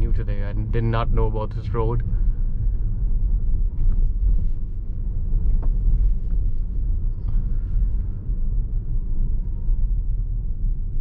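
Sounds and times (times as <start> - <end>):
tyre and road noise rumble: 0.0 - 11.0.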